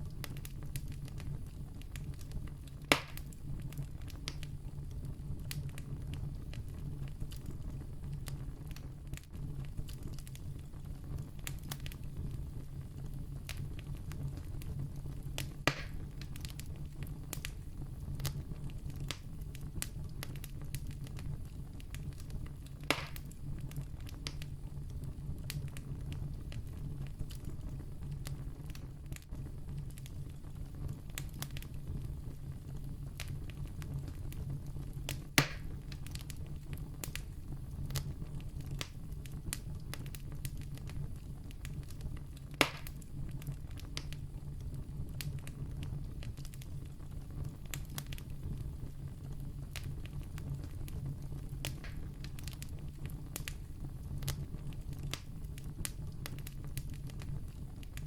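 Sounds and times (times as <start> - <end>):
campfire crackling: 0.0 - 58.0
fire rumbling: 0.0 - 58.0
loud fire pops: 0.0 - 58.0.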